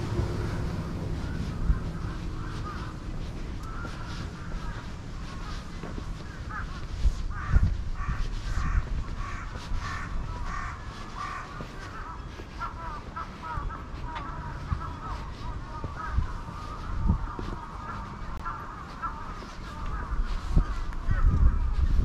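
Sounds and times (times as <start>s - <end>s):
crows cawing: 0.0s - 22.0s
footsteps on paving: 0.0s - 22.0s.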